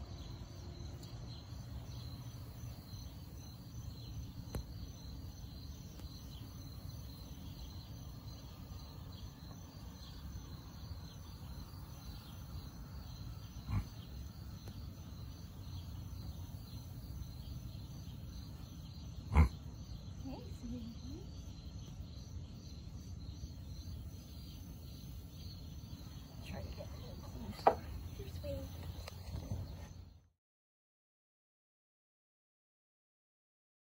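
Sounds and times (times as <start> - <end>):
low outdoor rumble: 0.0 - 29.9
crickets chirping: 0.0 - 30.2.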